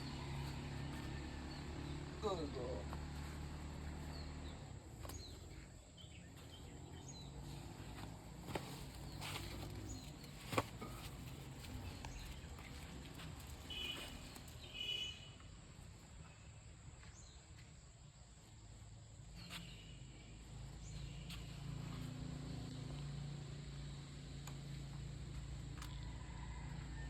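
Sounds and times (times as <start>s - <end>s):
faint outdoor background noise: 0.0s - 27.0s.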